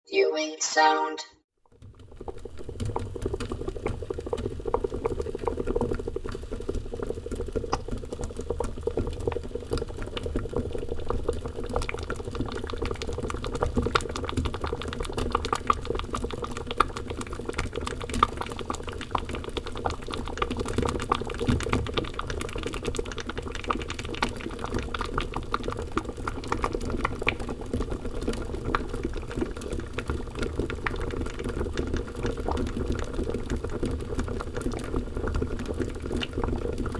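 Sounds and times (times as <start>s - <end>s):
thick liquid boiling: 1.7s - 36.9s.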